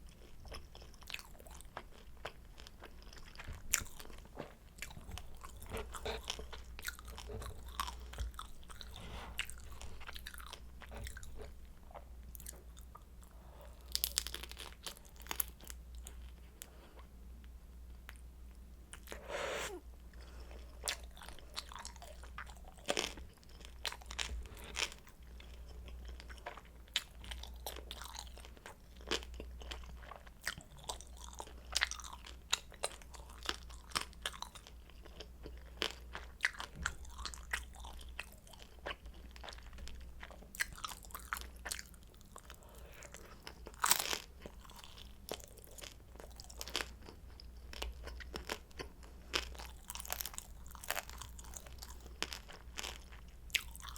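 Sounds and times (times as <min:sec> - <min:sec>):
chewing and crunching food: 0:00.0 - 0:19.2, 0:20.0 - 0:53.9.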